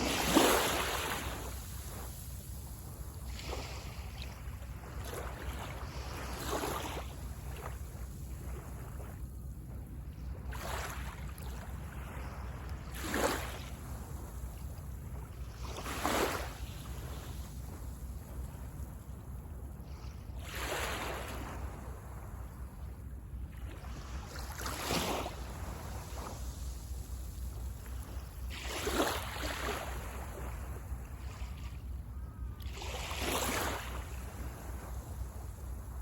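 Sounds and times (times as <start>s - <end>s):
small waves breaking on sand: 0.0s - 22.7s, 23.5s - 36.0s.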